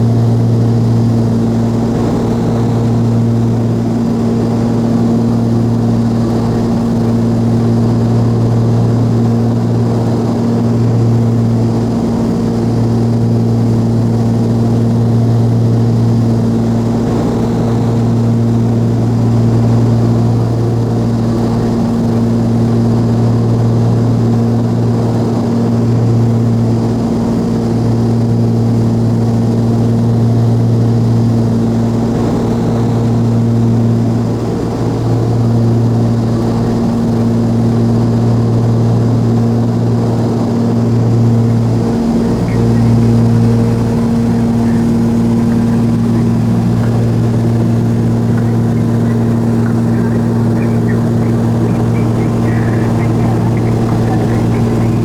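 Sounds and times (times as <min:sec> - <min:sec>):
aircraft propeller engines droning: 0:00.0 - 0:55.0.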